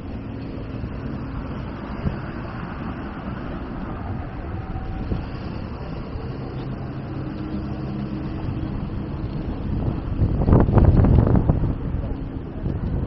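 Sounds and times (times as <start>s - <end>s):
low engine hum: 0.0s - 13.0s
van driving past: 0.0s - 13.0s.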